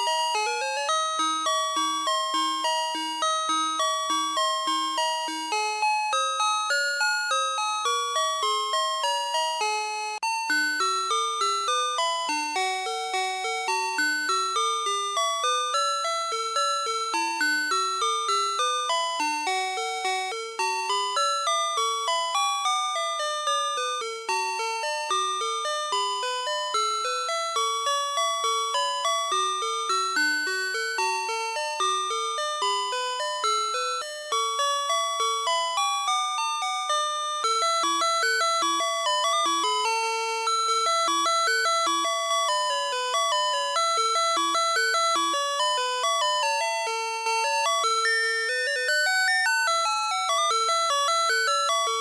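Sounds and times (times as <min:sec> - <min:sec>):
toy playing electronic tune: 0:00.0 - 0:52.0.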